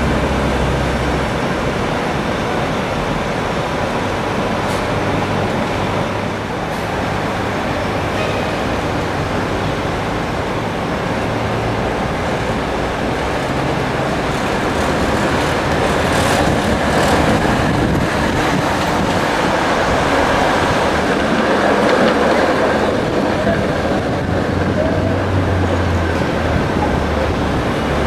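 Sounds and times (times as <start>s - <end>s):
city traffic: 0.0s - 28.0s
streetcar running on rails: 0.0s - 28.0s.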